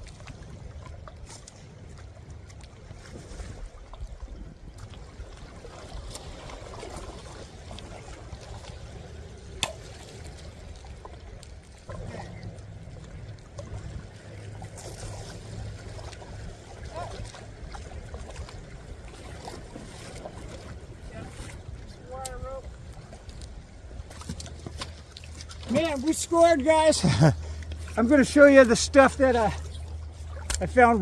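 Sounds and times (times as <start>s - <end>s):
wind rumbling on microphone: 0.0s - 25.7s
water trickling and sloshing: 0.0s - 31.0s.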